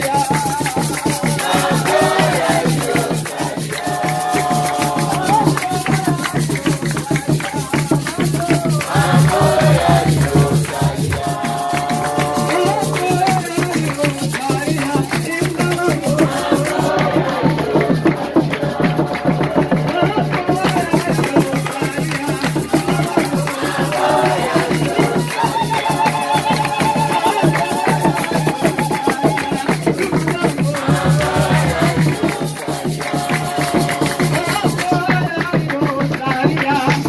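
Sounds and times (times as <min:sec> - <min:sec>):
choir singing: 0:00.0 - 0:06.6, 0:08.3 - 0:35.1
rattle beat: 0:00.0 - 0:37.0.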